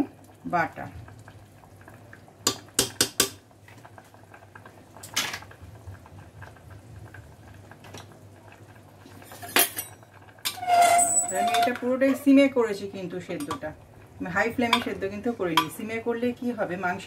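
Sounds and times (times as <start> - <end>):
stew simmering in a pot: 0.0 - 17.0.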